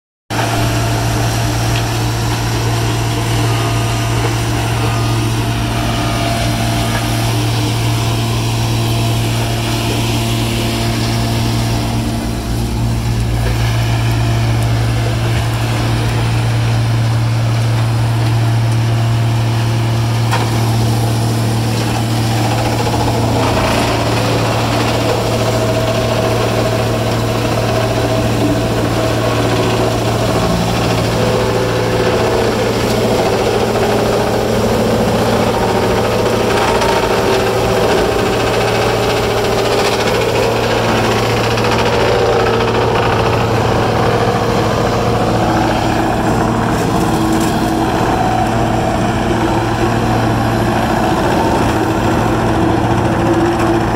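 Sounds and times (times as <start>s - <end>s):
grinder diesel engine humming: 0.3s - 53.9s.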